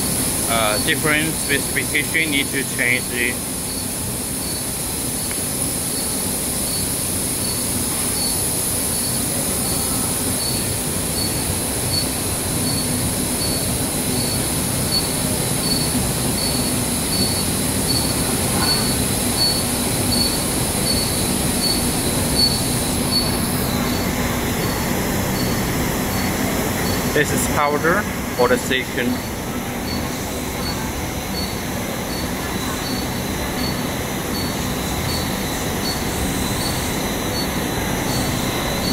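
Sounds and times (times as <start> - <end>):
low machine hum: 0.0 - 38.9
production line hiss: 0.0 - 38.9.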